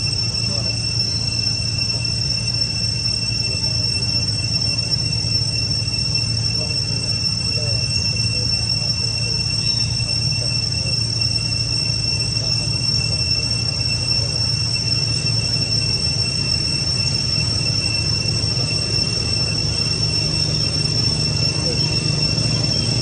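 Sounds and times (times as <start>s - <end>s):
insect chorus whining: 0.0s - 23.0s.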